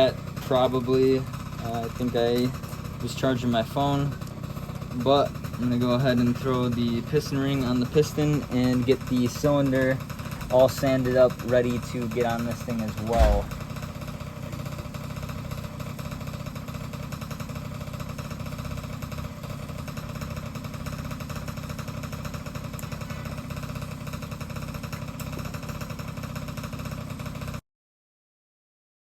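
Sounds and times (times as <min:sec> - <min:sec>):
small engine idling: 0:00.0 - 0:27.6.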